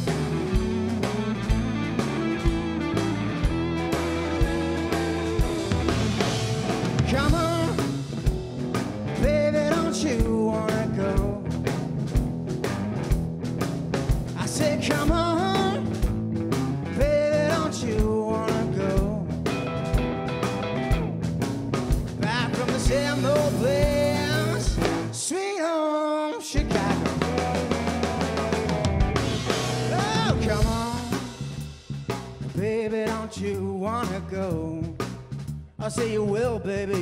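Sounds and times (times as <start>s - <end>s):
drum kit steady beat: 0.0s - 25.2s, 26.6s - 37.0s
electric guitar lead: 0.0s - 25.2s, 26.6s - 32.2s
bass guitar: 0.0s - 25.3s, 26.6s - 37.0s.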